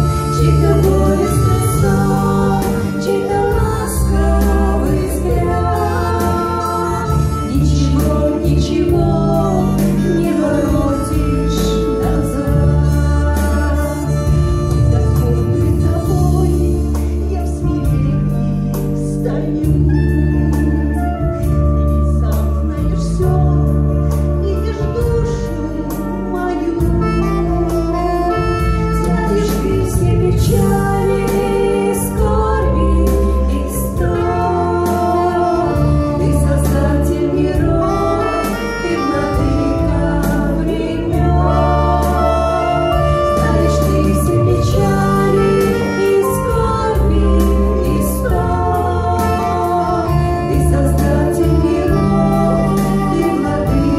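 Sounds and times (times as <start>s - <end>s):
organ-like keyboard and bass: 0.0s - 53.9s
women singing duet: 0.0s - 53.9s.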